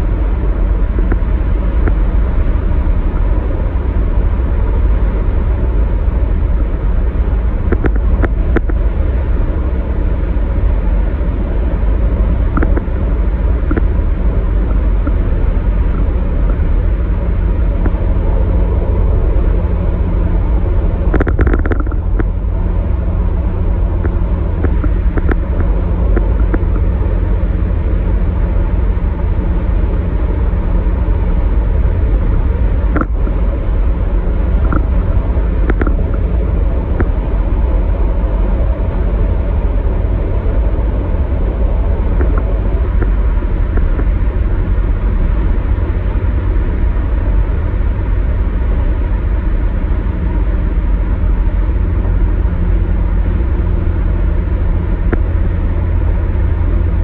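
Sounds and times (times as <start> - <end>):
car road and tyre rumble: 0.0 - 57.0.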